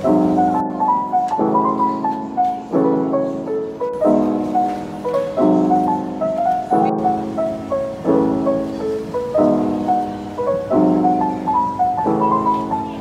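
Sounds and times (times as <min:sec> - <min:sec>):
piano chords and melody: 0:00.0 - 0:13.0.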